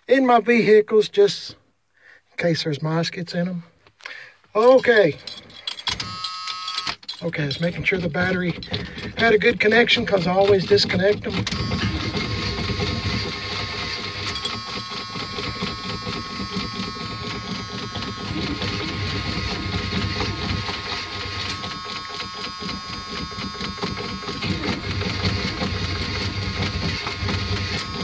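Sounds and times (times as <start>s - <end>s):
dashboard warning buzzer: 4.6s - 28.0s.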